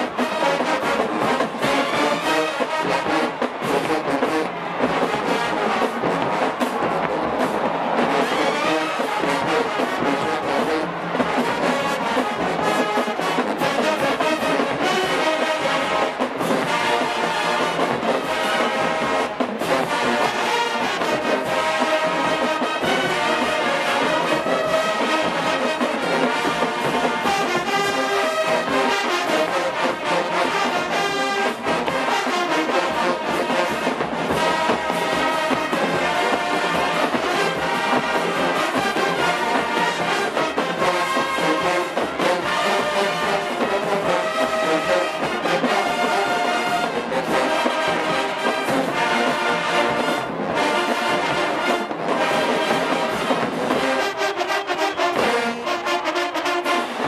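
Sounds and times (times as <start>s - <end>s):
drum beat: 0.0s - 57.0s
marching band playing: 0.0s - 57.0s
trombones and trumpets: 0.0s - 57.0s.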